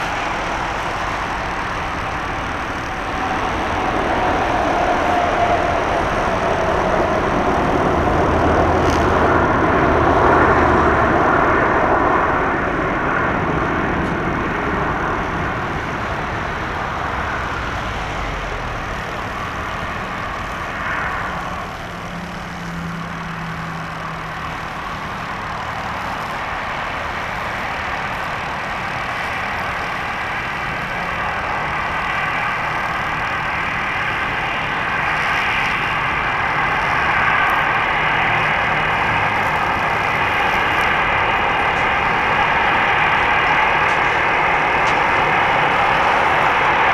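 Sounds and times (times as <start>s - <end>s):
jet engine noise: 0.0s - 46.9s.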